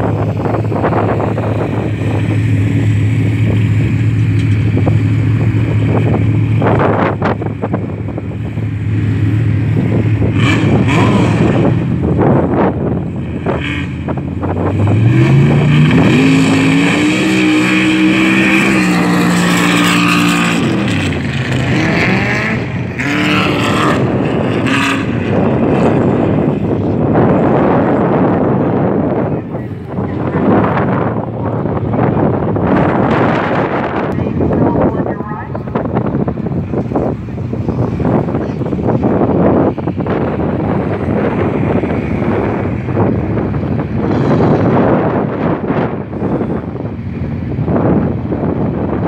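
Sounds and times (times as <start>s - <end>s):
engine idling and revving: 0.0s - 49.0s.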